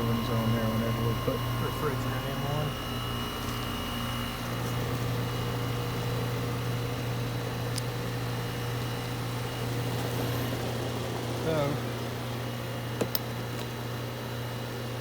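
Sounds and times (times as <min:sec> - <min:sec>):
air conditioner compressor hum: 0:00.0 - 0:15.0
condenser fan: 0:00.0 - 0:15.0.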